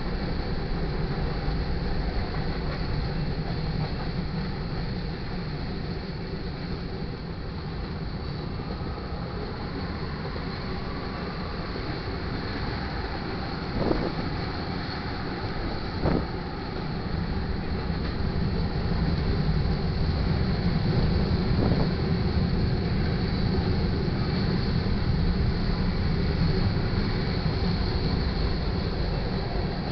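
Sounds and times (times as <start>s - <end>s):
train wheels rumbling on rail: 0.0s - 29.9s.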